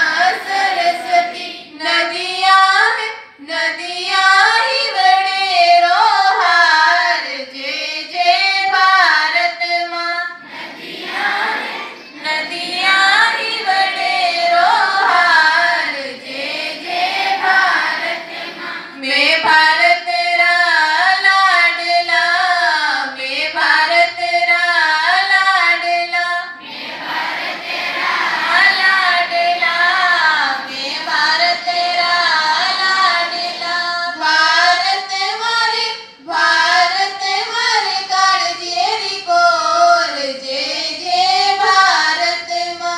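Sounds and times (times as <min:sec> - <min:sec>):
children singing in unison: 0:00.0 - 0:02.8, 0:03.4 - 0:25.5, 0:26.5 - 0:42.9.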